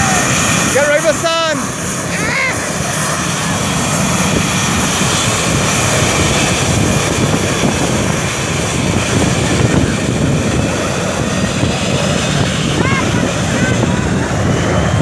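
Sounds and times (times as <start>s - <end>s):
jet engines rushing and rumbling: 0.0s - 15.0s.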